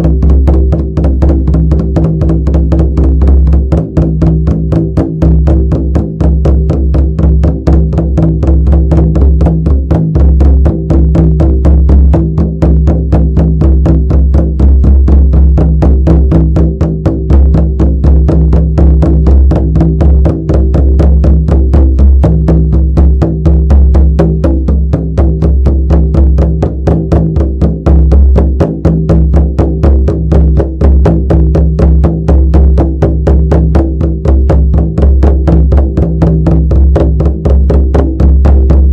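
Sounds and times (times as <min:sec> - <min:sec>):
frame drum beating fast: 0:00.0 - 0:38.9.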